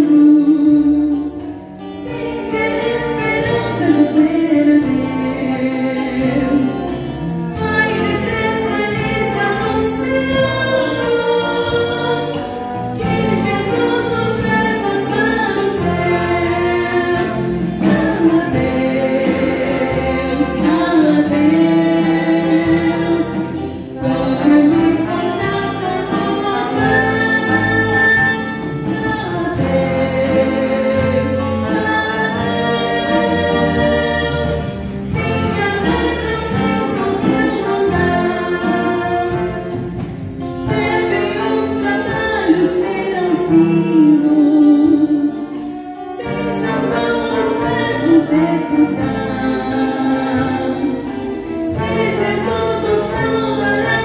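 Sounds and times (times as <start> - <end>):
small orchestra playing: 0.0 - 54.0
woman singing a hymn: 0.0 - 54.0.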